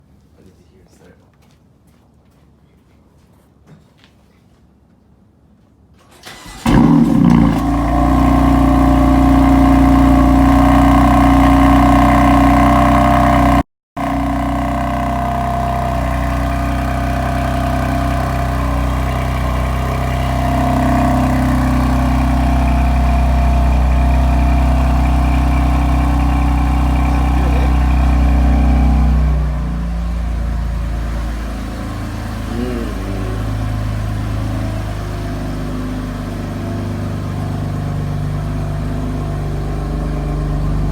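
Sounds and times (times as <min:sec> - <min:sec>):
car engine starting and idling: 0:06.0 - 0:40.9.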